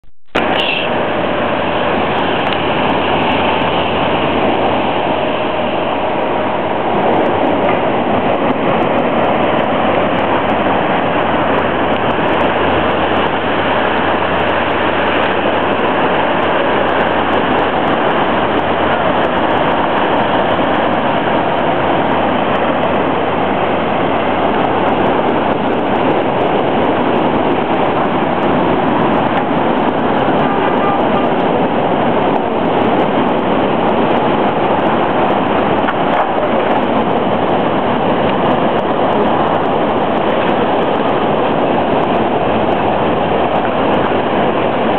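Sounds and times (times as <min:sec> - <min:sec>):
crashing waves: 0:00.3 - 0:44.9.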